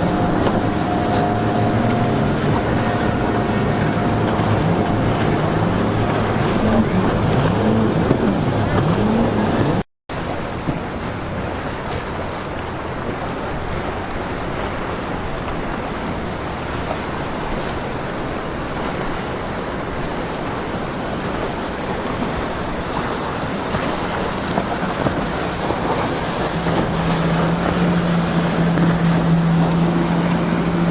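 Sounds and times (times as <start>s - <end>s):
boat engine: 0.0s - 30.9s
low engine hum: 0.0s - 30.9s
surf washing: 0.0s - 30.9s
wind: 0.0s - 30.9s.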